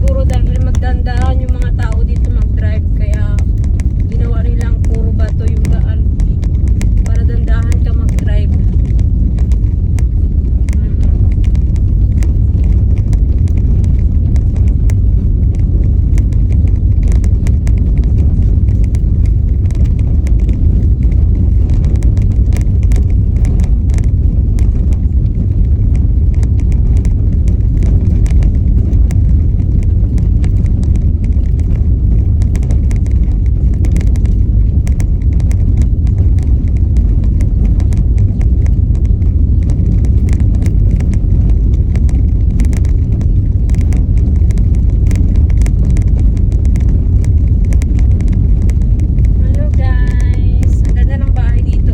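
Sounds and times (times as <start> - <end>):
stones rattling under wheels: 0.0 - 51.9
tyres rumbling on rough road: 0.0 - 51.9.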